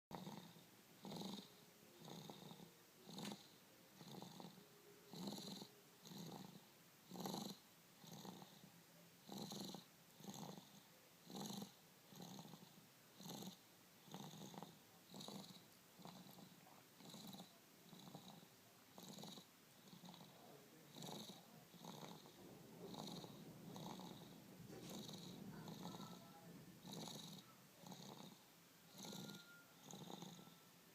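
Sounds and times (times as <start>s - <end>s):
dog snoring faintly: 0.1s - 30.8s.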